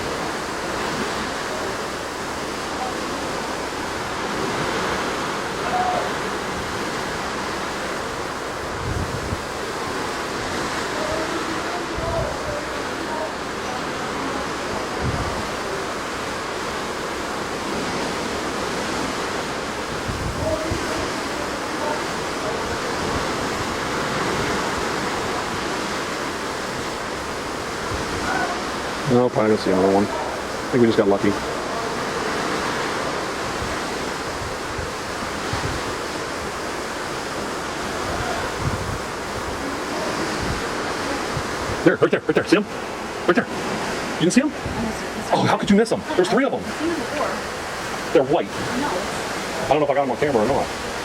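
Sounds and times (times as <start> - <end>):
sea water rushing past ship: 0.0 - 51.0
wind buffeting microphone: 2.8 - 12.9, 14.7 - 15.8, 17.7 - 21.5, 22.1 - 29.1, 29.8 - 45.3, 46.0 - 51.0.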